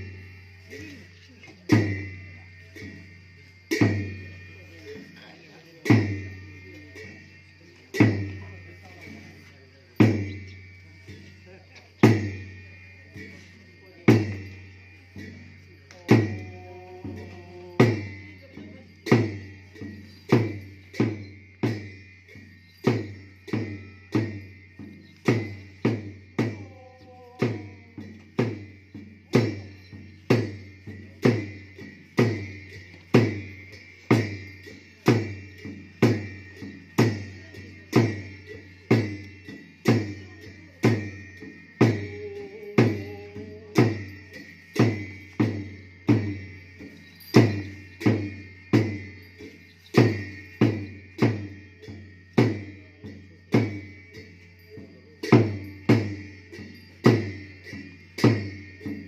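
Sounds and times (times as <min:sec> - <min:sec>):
cymbals ringing: 0:00.0 - 0:59.0
drum beating: 0:00.0 - 0:59.0.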